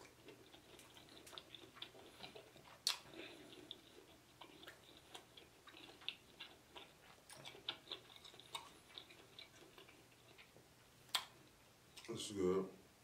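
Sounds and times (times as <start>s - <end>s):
faint chewing mouth sounds: 0.0s - 12.2s.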